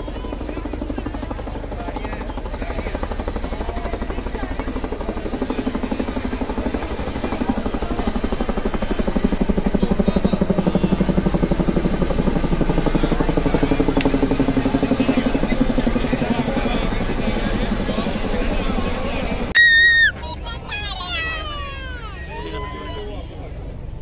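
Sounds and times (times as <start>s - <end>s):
helicopter rotor beating: 0.0s - 24.0s.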